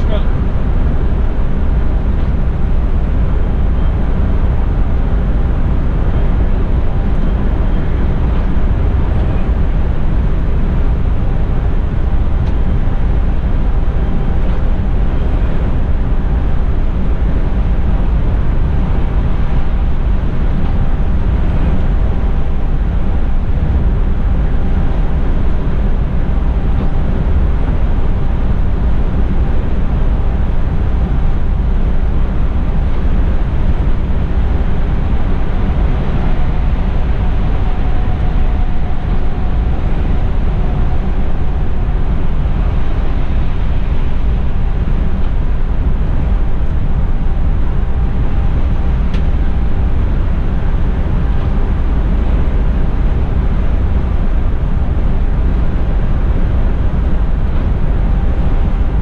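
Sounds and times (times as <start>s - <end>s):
coach engine and tyres rumbling: 0.0s - 59.0s.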